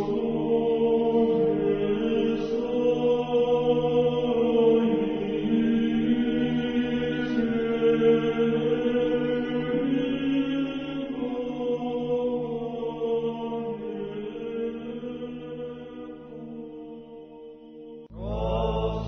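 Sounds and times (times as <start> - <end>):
choir chanting slowly: 0.0 - 19.0.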